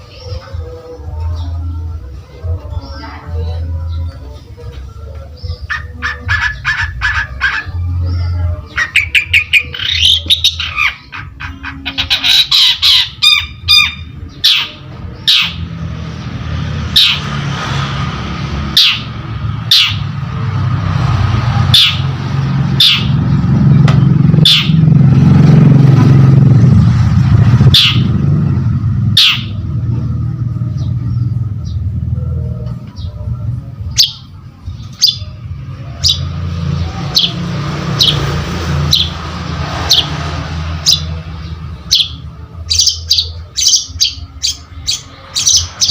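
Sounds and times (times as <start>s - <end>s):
shrike singing: 0.0s - 45.9s.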